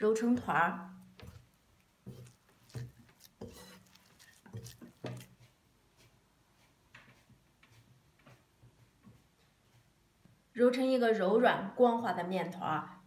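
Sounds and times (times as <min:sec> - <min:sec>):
dough kneaded in a bowl: 0:00.0 - 0:10.9.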